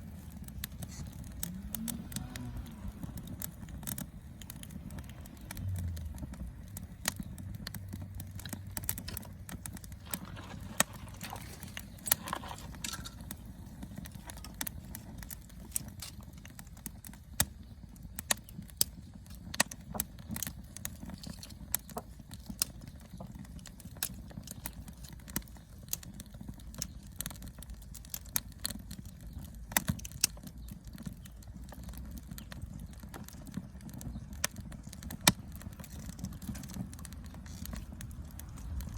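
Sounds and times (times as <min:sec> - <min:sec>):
campfire crackling and popping: 0:00.0 - 0:38.9
low rumble of fire: 0:00.0 - 0:38.9.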